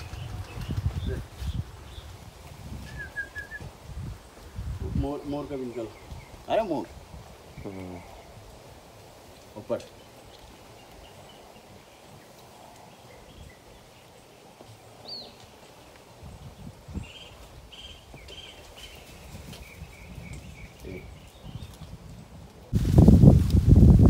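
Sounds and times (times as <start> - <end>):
small birds chirping: 0.0 - 22.6.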